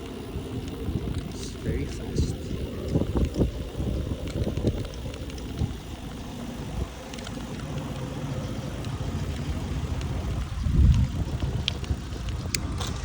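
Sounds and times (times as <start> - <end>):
bicycle rumble: 0.0 - 13.0
wind noise on microphone: 0.0 - 13.0.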